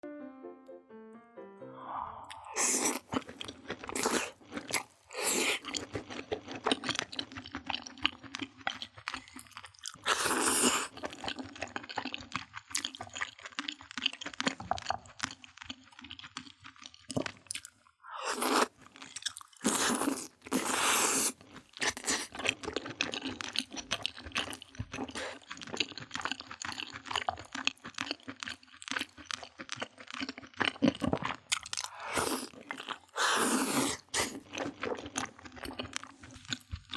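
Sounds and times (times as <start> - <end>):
crackling chewing: 2.3 - 36.9
crisp crunching bites: 2.6 - 36.9.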